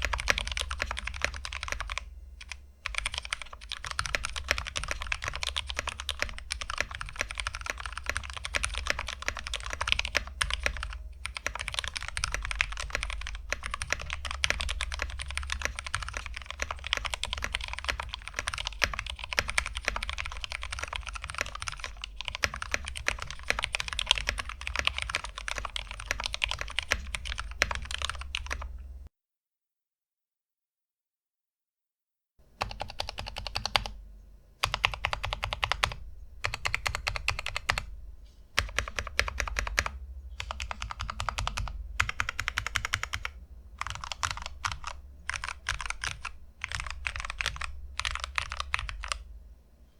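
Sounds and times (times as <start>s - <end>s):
mechanical keyboard typing: 0.0s - 29.0s, 32.6s - 34.0s, 34.6s - 37.9s, 38.6s - 49.3s.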